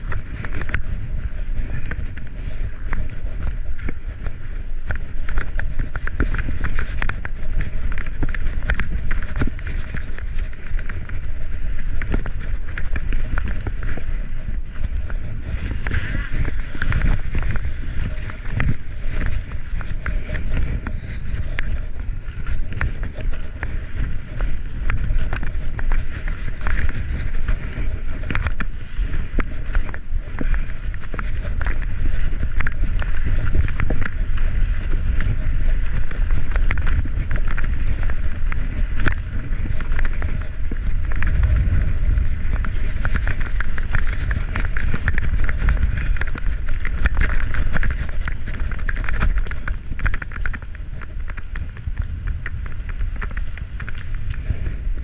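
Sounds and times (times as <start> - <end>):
bicycle clicks and rattles: 0.0 - 55.0
wind rushing over microphone: 0.0 - 55.0.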